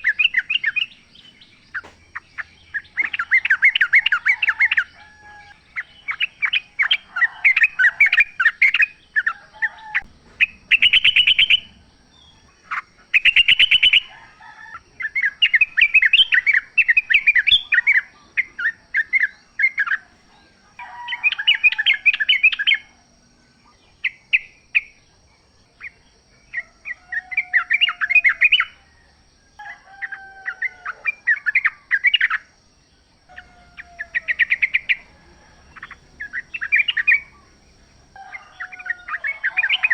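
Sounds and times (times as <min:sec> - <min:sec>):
bird singing chattering song: 0:00.0 - 0:14.2, 0:14.9 - 0:22.9, 0:23.5 - 0:29.0, 0:33.2 - 0:39.9.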